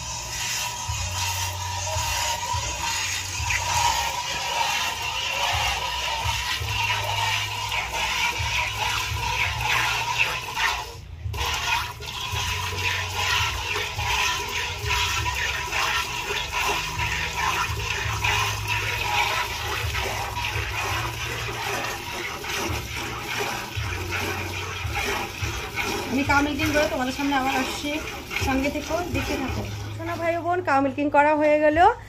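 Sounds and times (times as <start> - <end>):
milk squirting into steel pail: 0.0 - 30.5.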